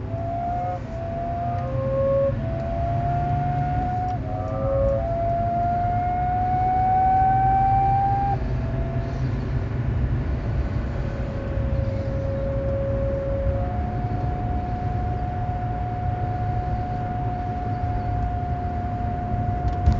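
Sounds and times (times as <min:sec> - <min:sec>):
car high whine: 0:00.0 - 0:19.9
low road rumble: 0:00.0 - 0:19.9.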